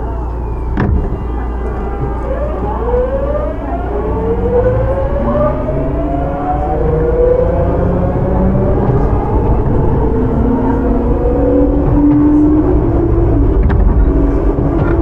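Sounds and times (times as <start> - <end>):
electric train inverter whining: 0.0 - 15.0
running gear rumble: 0.0 - 15.0.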